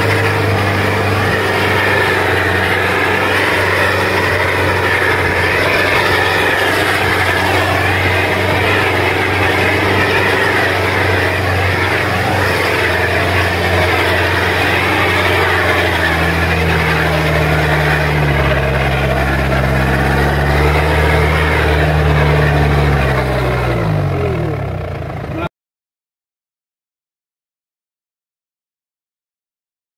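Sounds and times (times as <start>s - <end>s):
jeep engine running: 0.0s - 25.5s
road noise on dirt track: 0.0s - 25.5s.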